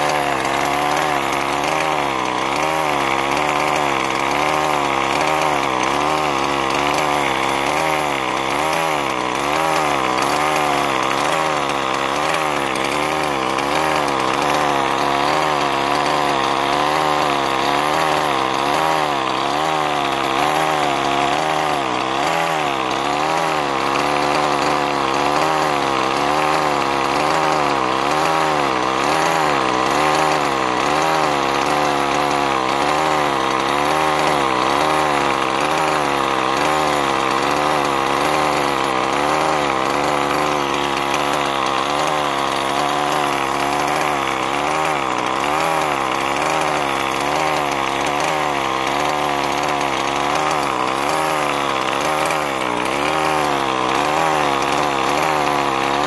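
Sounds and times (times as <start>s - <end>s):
two-stroke engine idling: 0.0s - 56.0s.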